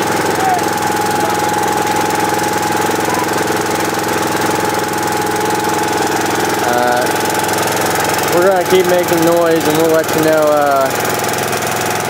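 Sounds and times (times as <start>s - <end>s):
air compressor chugging: 0.0s - 12.0s.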